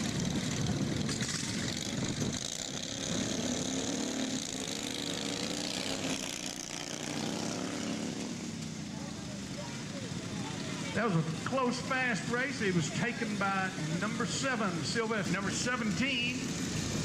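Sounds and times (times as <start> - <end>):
lawn mower engines racing: 0.0 - 17.0.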